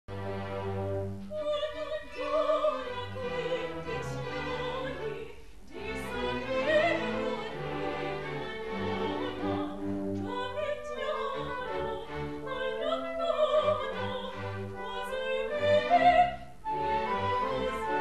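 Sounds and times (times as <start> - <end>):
orchestral accompaniment: 0.1 - 18.0
opera singing high voice: 1.3 - 18.0.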